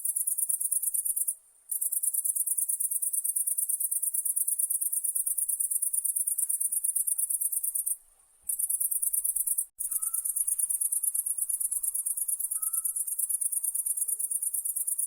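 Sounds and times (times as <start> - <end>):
insect high-pitched trill: 0.0 - 15.0.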